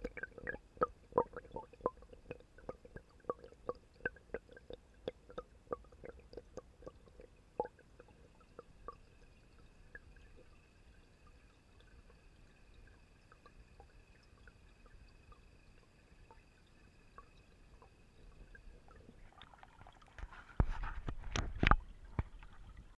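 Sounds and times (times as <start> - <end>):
faint steady hum: 0.0 - 22.9
underwater ambience: 0.0 - 22.9.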